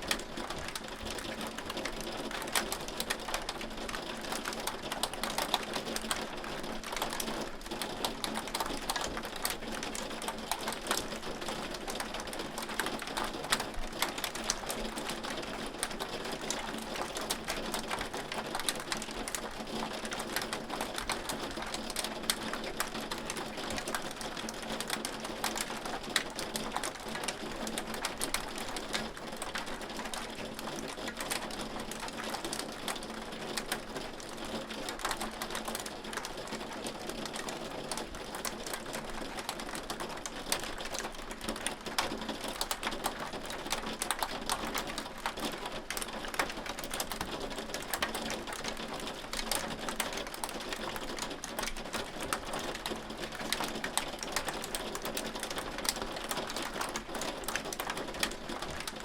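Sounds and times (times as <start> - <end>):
hail ticking on a surface: 0.1 - 59.0.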